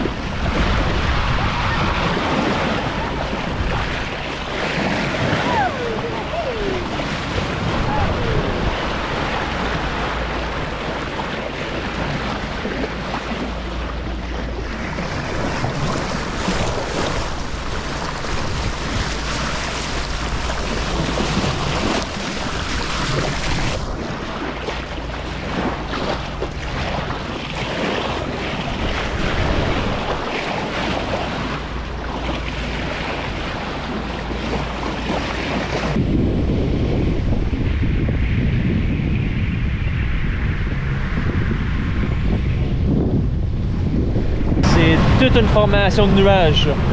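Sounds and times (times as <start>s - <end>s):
boat engine humming: 0.0s - 38.3s, 40.1s - 46.9s
water splashing past hull: 0.0s - 46.9s
wind buffeting microphone: 0.0s - 46.9s.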